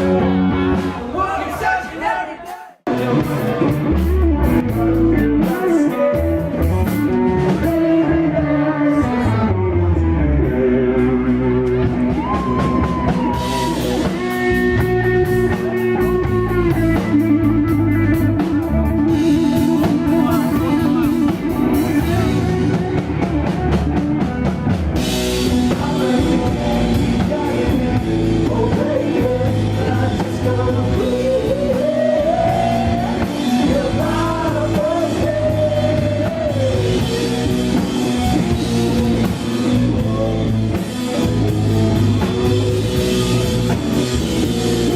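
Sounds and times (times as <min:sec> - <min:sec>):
electric guitar: 0:00.0 - 0:01.2, 0:02.9 - 0:44.9
drum kit: 0:00.0 - 0:44.9.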